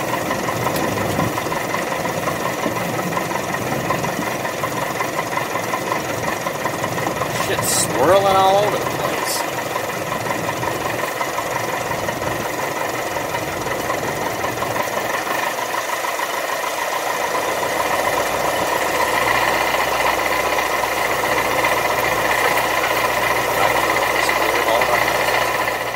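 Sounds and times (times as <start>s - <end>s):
airplane engine and propeller humming: 0.0s - 25.9s.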